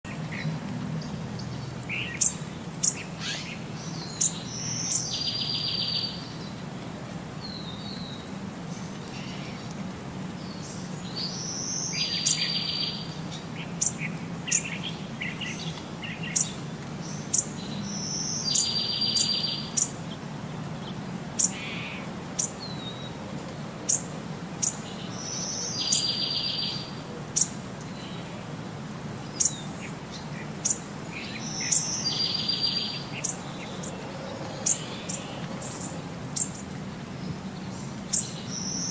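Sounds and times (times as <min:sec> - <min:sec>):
birds chirping and trilling: 0:00.1 - 0:06.6, 0:10.4 - 0:23.2, 0:23.9 - 0:28.4, 0:29.2 - 0:38.9.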